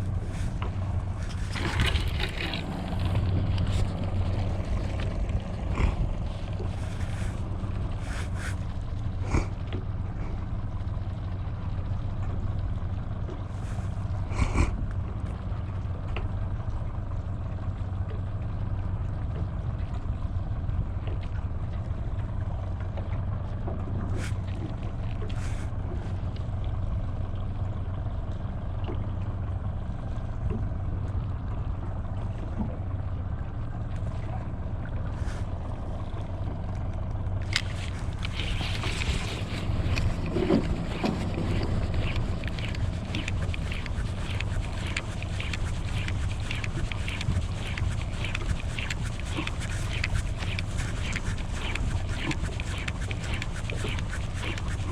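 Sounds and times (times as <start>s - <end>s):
boat engine humming: 0.0s - 54.9s.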